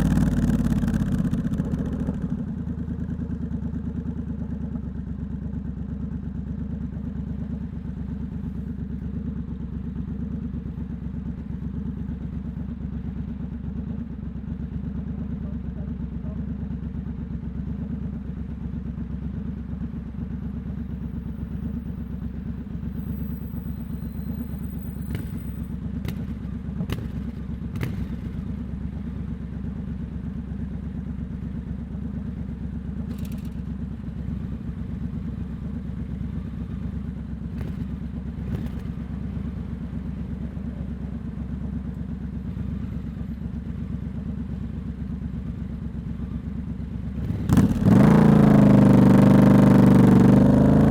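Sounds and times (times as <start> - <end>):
motorcycle engine running at low revs: 0.0 - 50.9.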